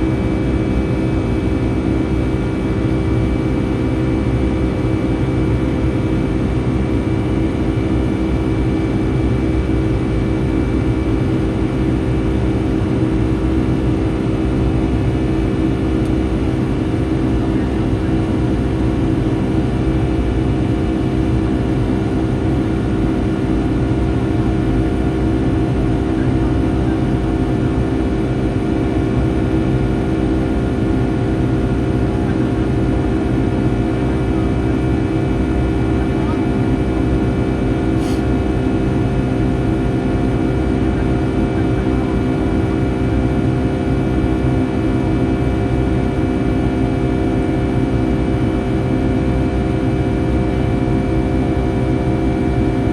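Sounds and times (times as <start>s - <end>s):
jet engine cabin rumble: 0.0s - 47.7s.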